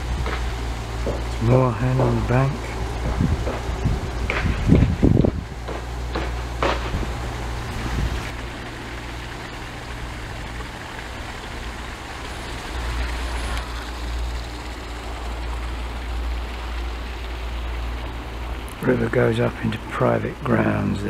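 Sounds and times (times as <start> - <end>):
distant road traffic: 0.0 - 21.0.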